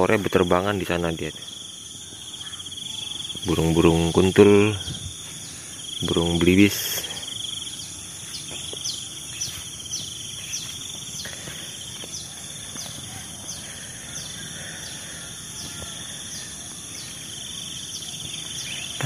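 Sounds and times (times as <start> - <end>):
high falling chirp: 0.0 - 19.0
insects trilling and humming: 0.0 - 19.0.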